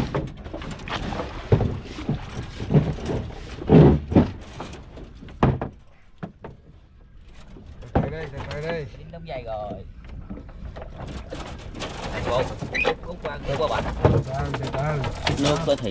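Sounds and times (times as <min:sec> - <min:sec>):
floodwater splashing and sloshing: 0:00.0 - 0:08.9, 0:09.7 - 0:15.9
wooden poles knocking: 0:00.0 - 0:08.9, 0:09.5 - 0:15.9.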